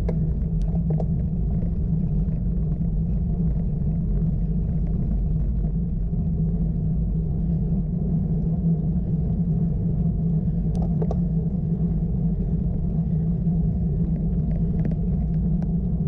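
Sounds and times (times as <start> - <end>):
wind and road noise rumble: 0.0 - 16.0.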